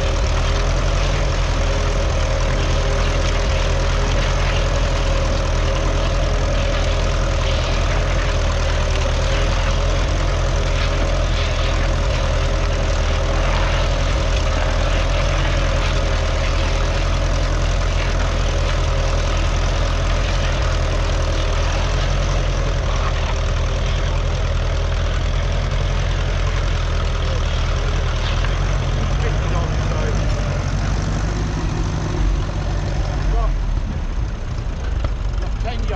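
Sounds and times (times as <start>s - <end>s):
tractor engine running steadily: 0.0s - 35.9s.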